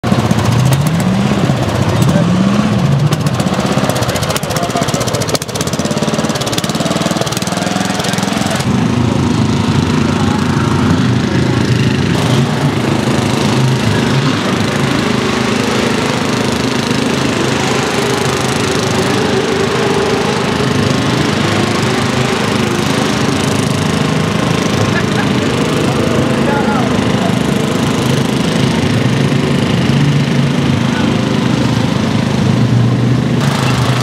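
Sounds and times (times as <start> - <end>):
lawn mower engine running: 0.0 - 34.0.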